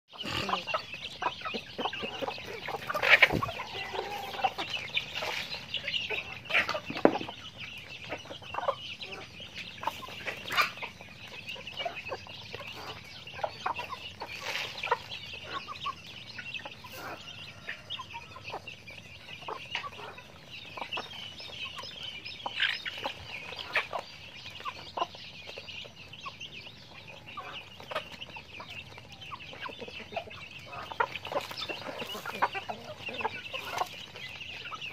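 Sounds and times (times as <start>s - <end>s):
chickens clucking: 0.1s - 34.9s
chicks cheeping: 0.1s - 34.9s
sharp chicken calls: 0.1s - 34.9s.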